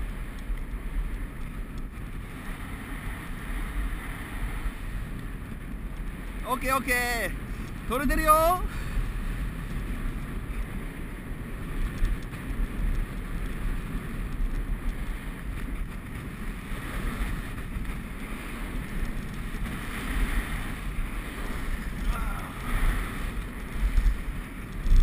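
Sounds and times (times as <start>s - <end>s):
skis sliding on snow: 0.0s - 25.0s
wind buffeting microphone: 0.0s - 25.0s.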